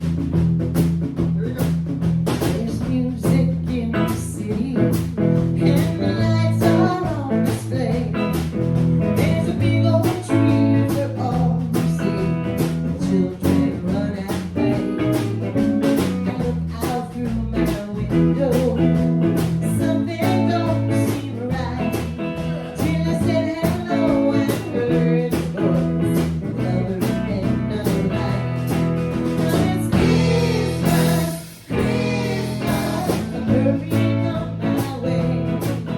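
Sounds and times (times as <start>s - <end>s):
guitar: 0.0s - 35.9s
steady drum beat: 0.0s - 35.9s
person singing: 2.5s - 8.3s, 9.1s - 35.9s.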